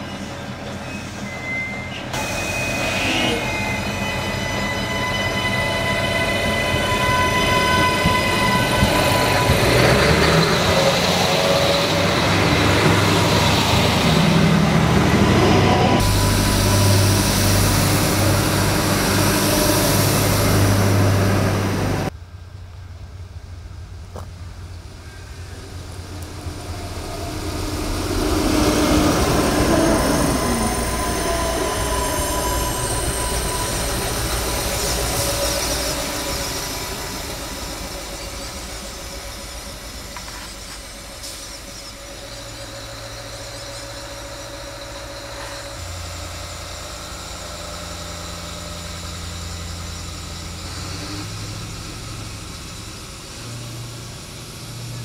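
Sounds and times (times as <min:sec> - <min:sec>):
railcar passing on rails: 0:00.0 - 0:55.0
high whine: 0:00.9 - 0:53.6
diesel engine droning: 0:06.3 - 0:55.0.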